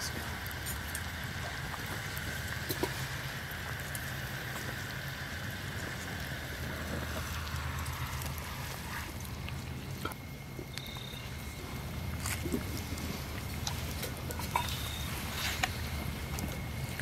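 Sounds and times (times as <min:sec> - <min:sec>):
gravy bubbling in a pot: 0:00.0 - 0:17.0
stove fire rumbling and crackling: 0:00.0 - 0:17.0.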